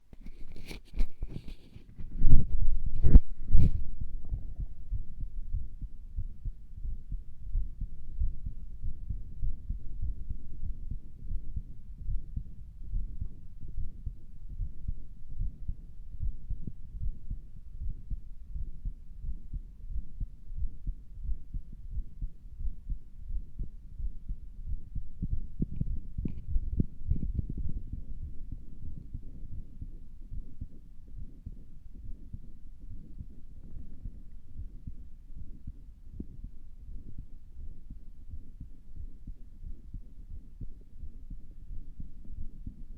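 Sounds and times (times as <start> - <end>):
heartbeat through stethoscope: 0.2 - 42.9.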